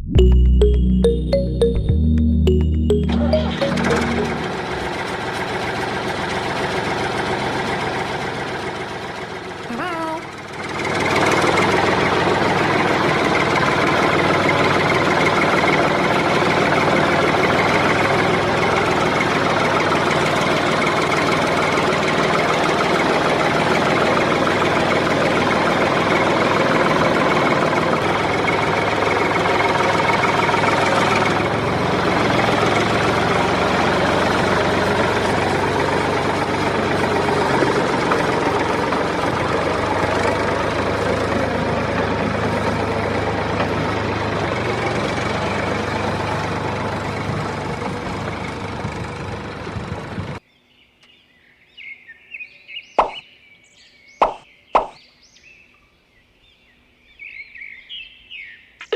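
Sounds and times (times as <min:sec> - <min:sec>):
tractor engine chugging: 0:03.2 - 0:50.4.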